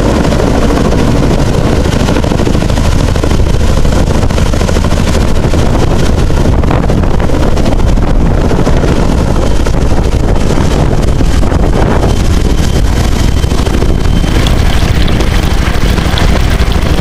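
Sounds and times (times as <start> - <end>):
model helicopter rotor drone: 0.0 - 17.0.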